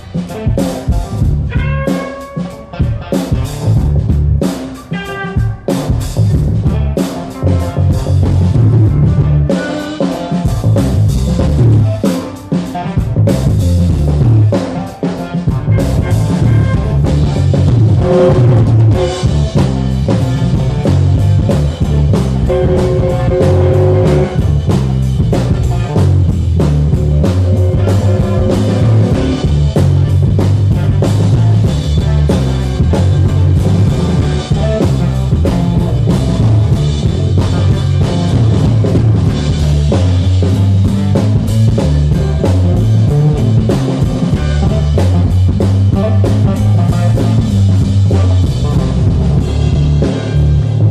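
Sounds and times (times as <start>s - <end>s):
blues-rock band playing loudly: 0.0s - 50.9s.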